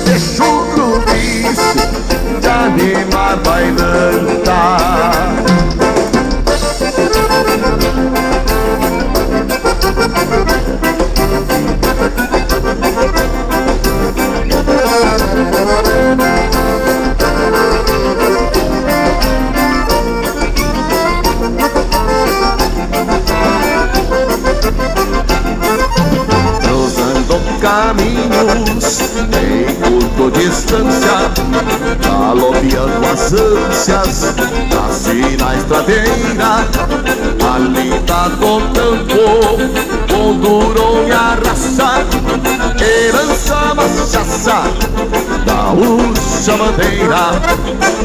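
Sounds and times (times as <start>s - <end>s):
accordion dance tune: 0.0s - 48.0s
band keeping steady beat: 0.0s - 48.0s.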